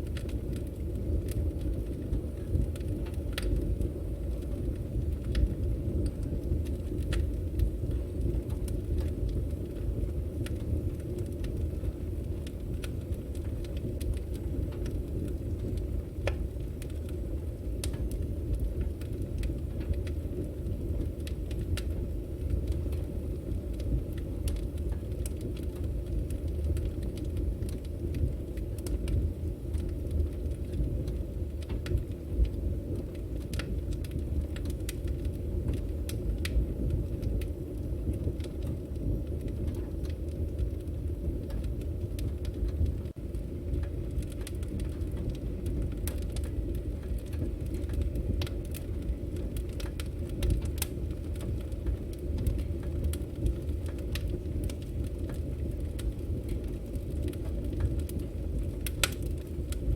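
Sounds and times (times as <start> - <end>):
fire rumbling: 0.0 - 59.9
firewood crackling and popping: 0.0 - 59.9.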